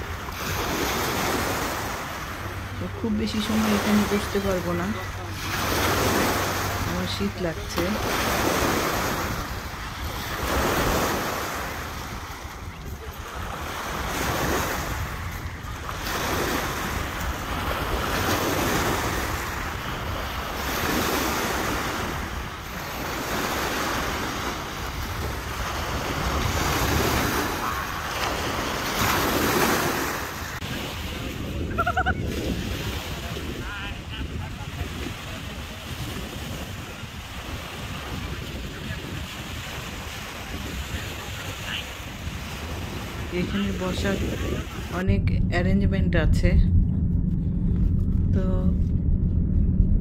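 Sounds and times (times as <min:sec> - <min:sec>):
lake waves washing on pebbles: 0:00.0 - 0:45.2
wind rumbling on microphone: 0:00.0 - 0:50.0.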